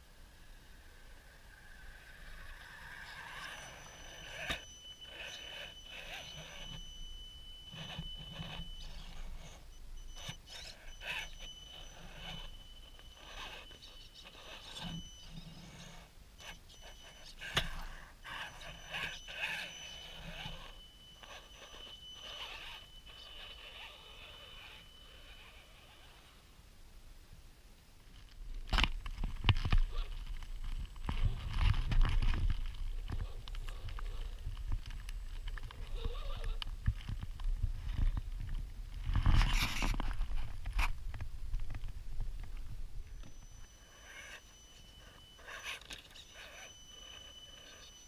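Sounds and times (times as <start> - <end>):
high electric motor whine: 0.0 - 26.5, 28.2 - 48.0.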